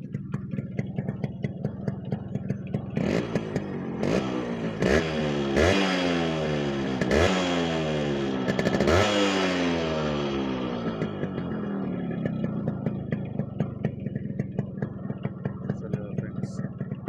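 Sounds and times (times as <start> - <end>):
two-stroke engine idling and revving: 0.0 - 17.0.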